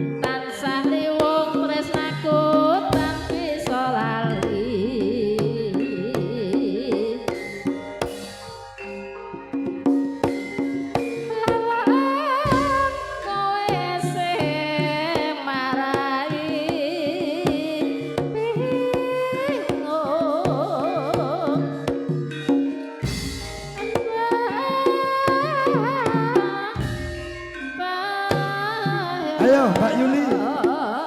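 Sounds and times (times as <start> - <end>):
wavering melody with vibrato: 0.0 - 31.0.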